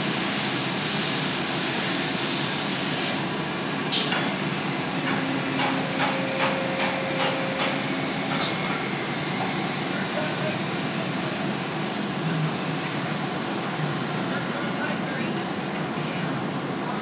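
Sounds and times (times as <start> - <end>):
factory machinery noise: 0.0 - 17.0.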